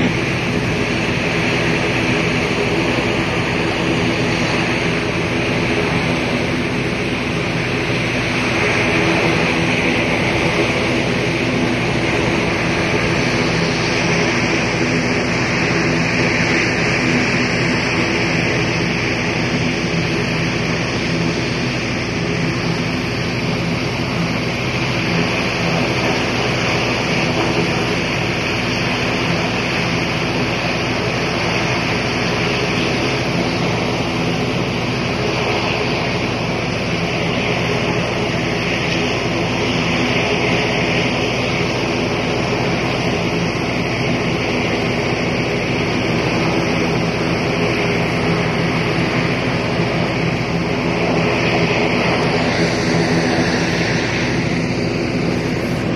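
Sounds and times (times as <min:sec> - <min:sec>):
jet engines hiss and whine: 0:00.0 - 0:55.9
low hum: 0:00.0 - 0:55.9.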